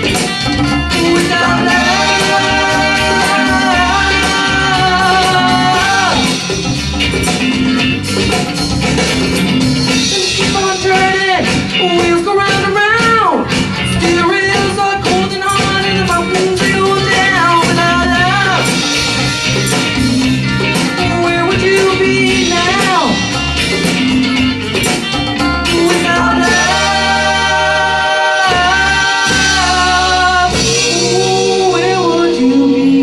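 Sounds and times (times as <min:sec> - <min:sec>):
bending melodic lead line: 0:00.0 - 0:33.0
rock music with guitar: 0:00.0 - 0:33.0.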